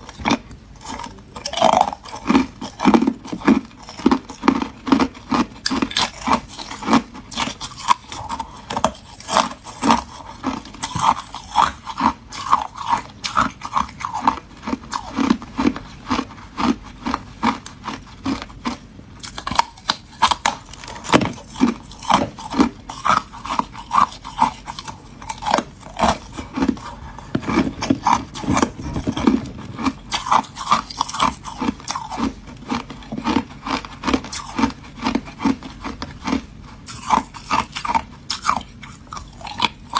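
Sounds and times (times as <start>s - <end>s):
person crunching ice: 0.1s - 39.9s.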